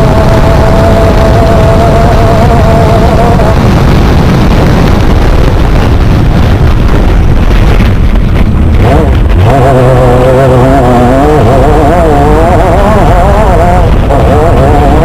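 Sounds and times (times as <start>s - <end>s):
engine revving: 0.0s - 15.0s
wind on microphone: 0.0s - 15.0s.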